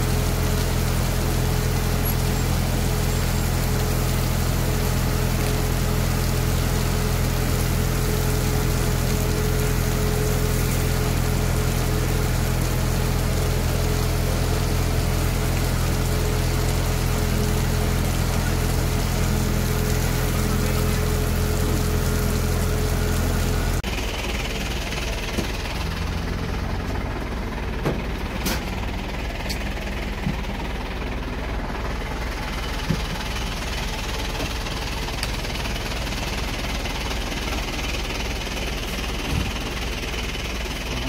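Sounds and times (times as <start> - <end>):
fire engine motor running: 0.0 - 41.0.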